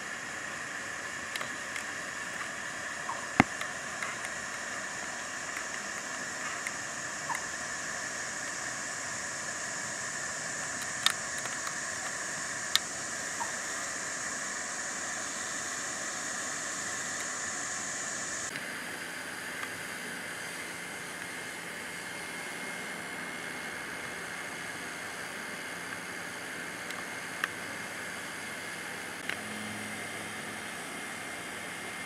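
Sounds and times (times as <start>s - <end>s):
outdoor ambient hiss: 0.0s - 32.0s.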